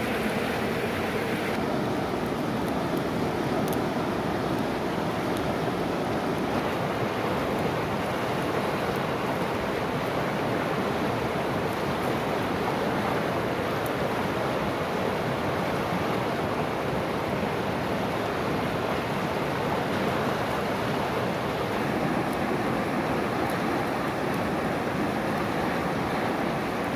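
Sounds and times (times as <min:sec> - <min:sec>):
river rushing over rocks: 0:00.0 - 0:26.9.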